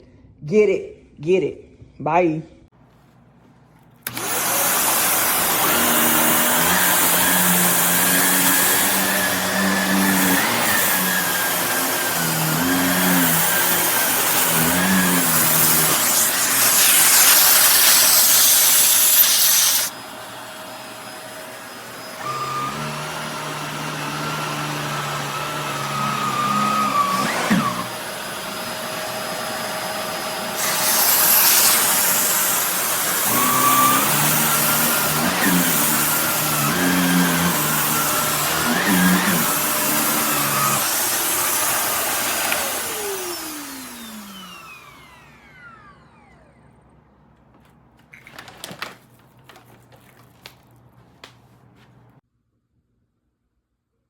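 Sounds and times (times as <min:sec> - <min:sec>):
vacuum cleaner motor whine: 0:04.0 - 0:47.7.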